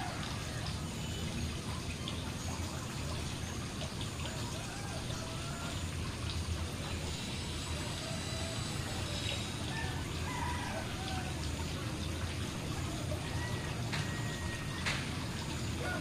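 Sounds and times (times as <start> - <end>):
waterfall splashing into pond: 0.0 - 16.0.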